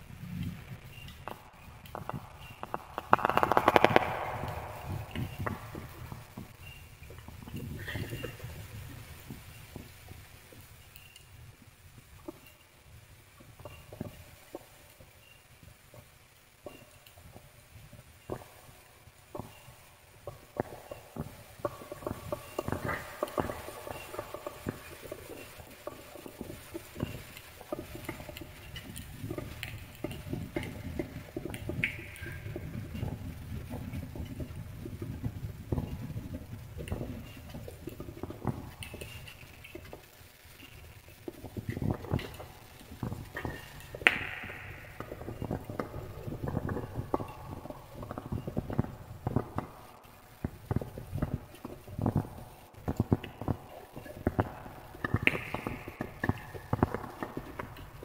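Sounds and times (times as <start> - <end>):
burning wood crackling: 0.0 - 58.0
low rumble of flames: 0.0 - 58.0.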